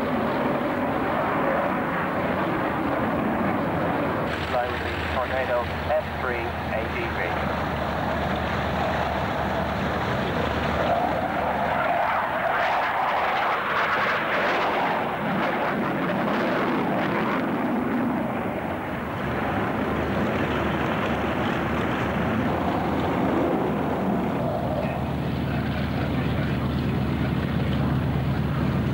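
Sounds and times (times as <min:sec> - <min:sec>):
jet engines rushing: 0:00.0 - 0:28.9.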